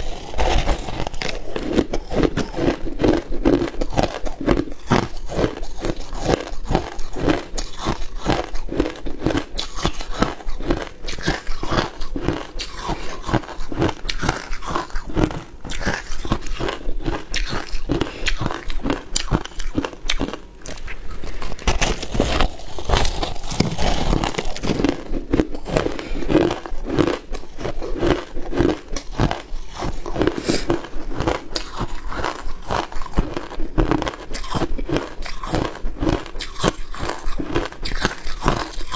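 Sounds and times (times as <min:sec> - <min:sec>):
chewing crushed ice: 0:00.0 - 0:38.9.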